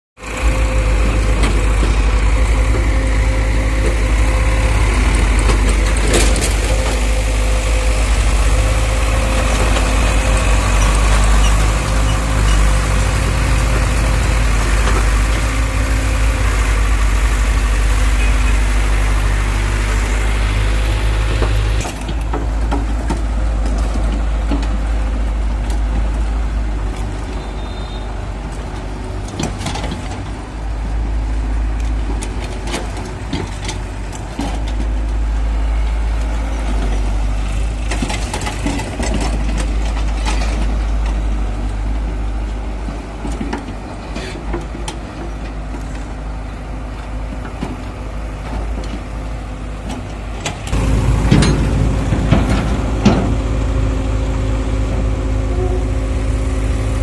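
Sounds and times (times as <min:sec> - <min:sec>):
diesel engines running: 0:00.2 - 0:57.0
tractor engine: 0:00.2 - 0:57.0
excavator knocks and clanks: 0:00.3 - 0:16.7, 0:21.2 - 0:57.0.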